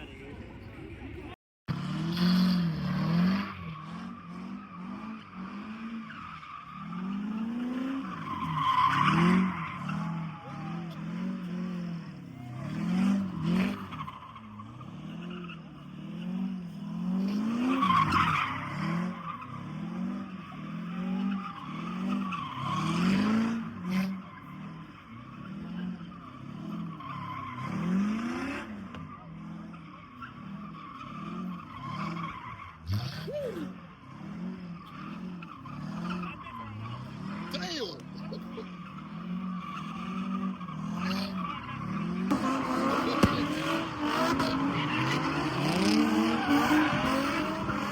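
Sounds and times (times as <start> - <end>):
car engine revving: 1.7 - 47.9
tyres squealing on pavement: 2.2 - 47.9.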